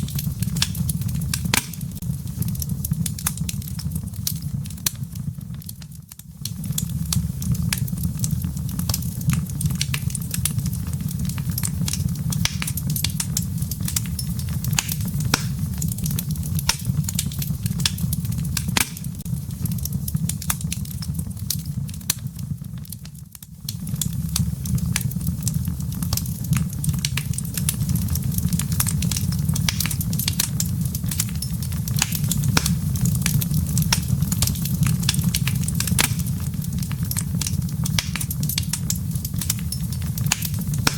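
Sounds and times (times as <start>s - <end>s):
low rumble of flame: 0.0s - 40.9s
wood fire crackling and popping: 0.0s - 40.9s.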